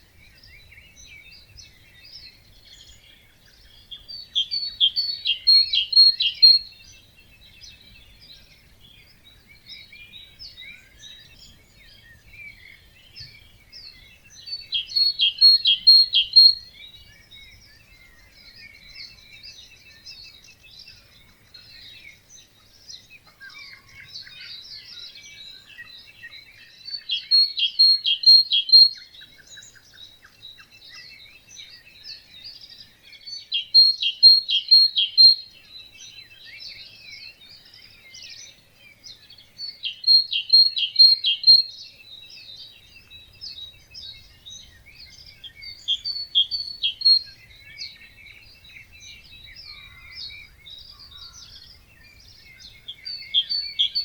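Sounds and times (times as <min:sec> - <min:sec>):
bird singing loud phrase: 0:00.0 - 0:54.0
birds twittering: 0:00.0 - 0:54.0.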